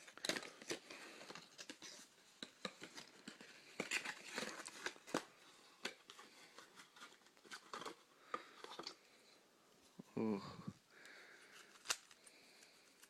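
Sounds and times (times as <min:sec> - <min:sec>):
packaging rustling: 0:00.0 - 0:09.0, 0:11.1 - 0:13.0.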